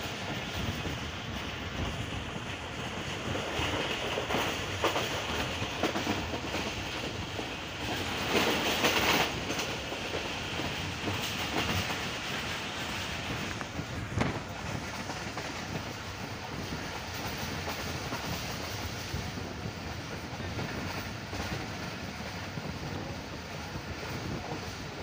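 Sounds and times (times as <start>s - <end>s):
passing diesel locomotive: 0.0s - 25.0s
wheel and rail noise: 0.0s - 25.0s.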